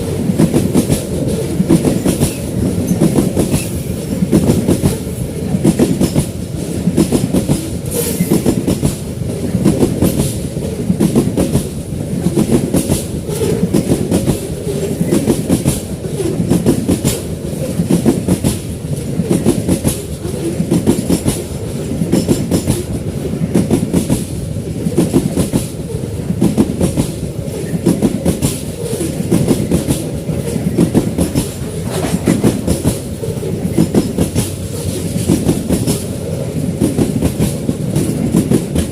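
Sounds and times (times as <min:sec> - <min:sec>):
train wheels clacking on rail joints: 0:00.0 - 0:38.9.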